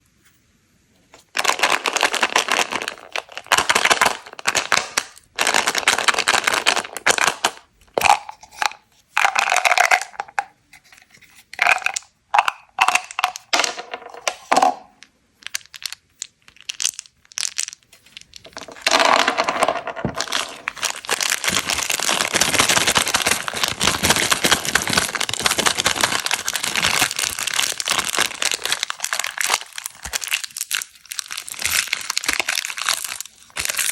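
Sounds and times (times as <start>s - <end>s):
plastic crinkling: 1.2s - 10.3s, 11.6s - 33.9s.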